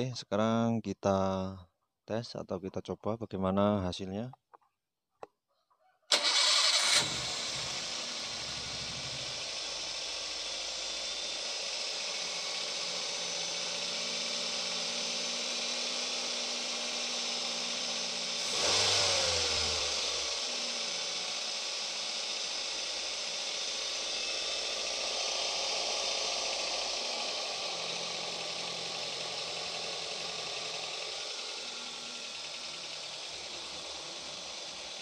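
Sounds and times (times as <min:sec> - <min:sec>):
car engine idling and revving: 0:06.1 - 0:35.0.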